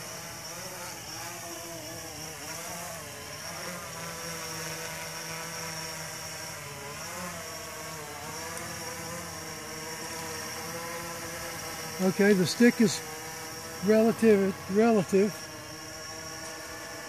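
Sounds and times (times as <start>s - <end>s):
quadcopter motors whirring: 0.0s - 17.0s.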